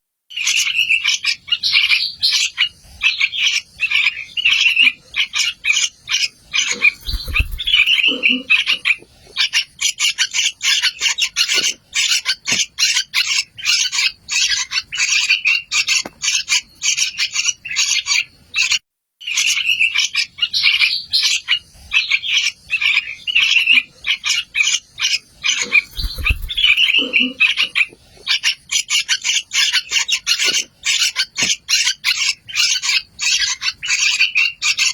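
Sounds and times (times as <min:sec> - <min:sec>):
nestlings chirping: 0:00.3 - 0:34.9.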